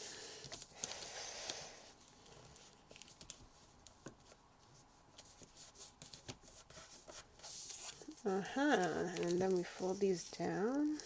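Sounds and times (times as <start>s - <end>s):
paper rustling and crinkling: 0.0s - 11.0s
small paper crackles: 0.4s - 4.4s, 5.1s - 11.0s.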